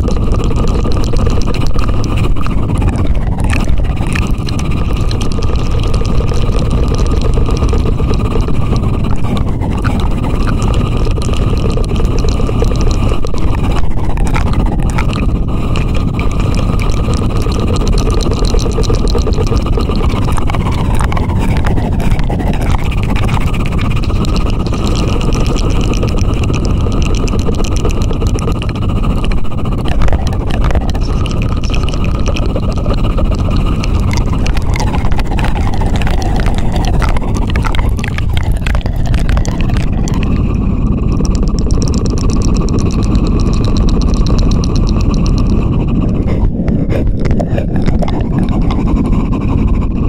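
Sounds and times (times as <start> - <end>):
low fluttering rumble: 0.0 - 50.0.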